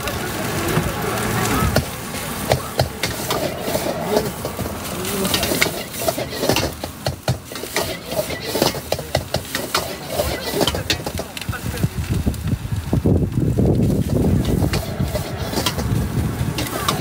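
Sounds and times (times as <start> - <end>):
indistinct background voices: 0.0 - 12.1, 14.1 - 17.0.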